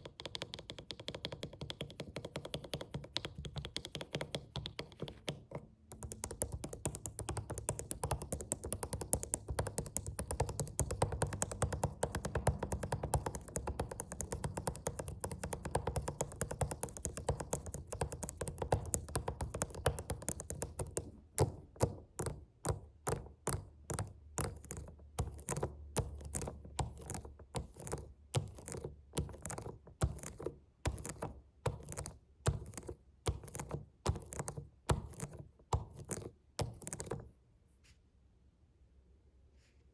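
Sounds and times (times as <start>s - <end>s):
fingers tapping on a suitcase: 0.0s - 37.1s.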